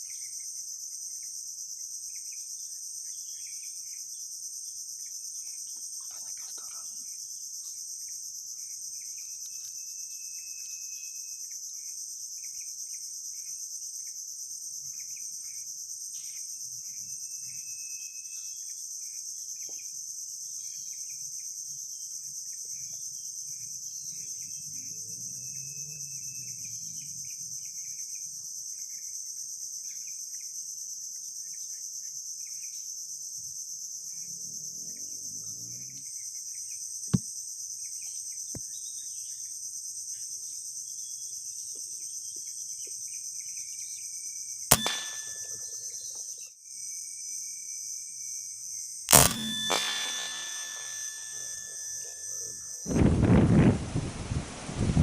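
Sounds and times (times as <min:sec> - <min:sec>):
insect chorus drone: 0:00.0 - 0:55.0.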